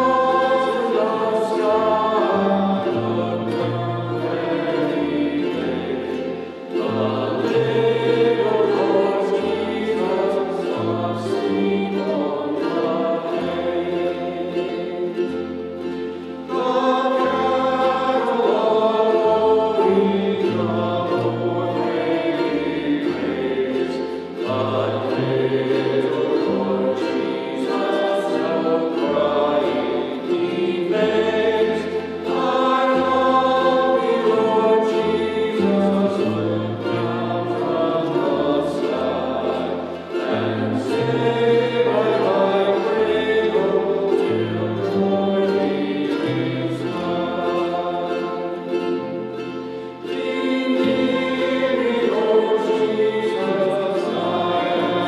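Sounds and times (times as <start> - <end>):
choir singing: 0.0 - 55.0
instrumental accompaniment: 0.0 - 55.0.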